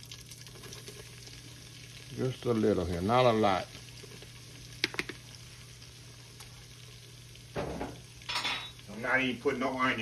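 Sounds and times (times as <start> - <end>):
flour and oil sizzling faintly: 0.0 - 10.0.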